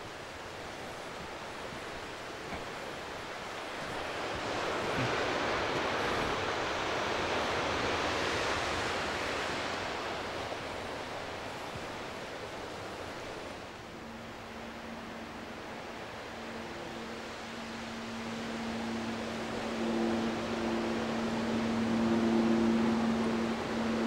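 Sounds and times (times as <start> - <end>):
sea surf rushing: 0.0 - 24.0.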